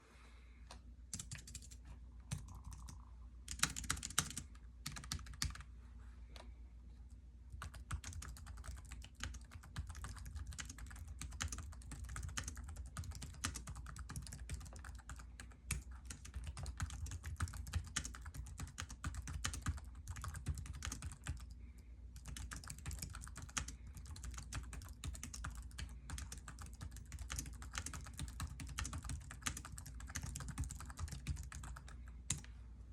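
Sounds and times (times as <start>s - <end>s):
laptop keyboard typing: 1.1s - 5.7s, 7.5s - 21.6s, 22.2s - 32.5s.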